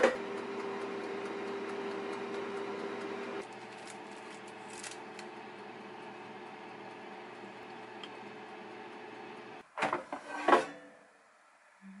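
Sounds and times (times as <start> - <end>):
air fryer fan hum: 0.0 - 9.6.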